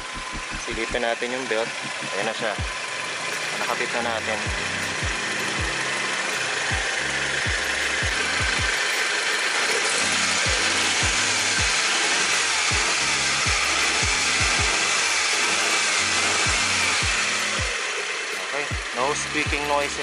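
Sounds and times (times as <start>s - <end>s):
music with deep steady beat: 0.0s - 1.0s, 1.7s - 20.0s
car engine running: 0.0s - 20.0s.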